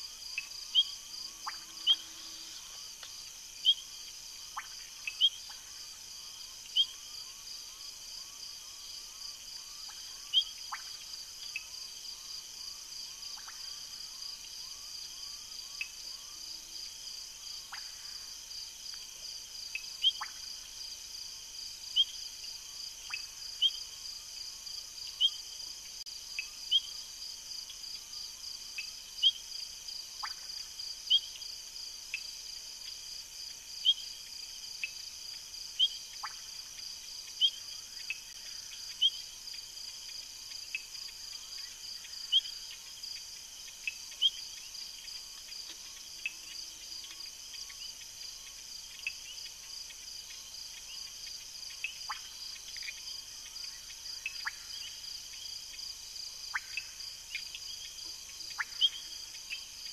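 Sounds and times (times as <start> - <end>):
crickets and insects trilling: 0.0 - 59.9
frogs chirping: 0.0 - 59.9.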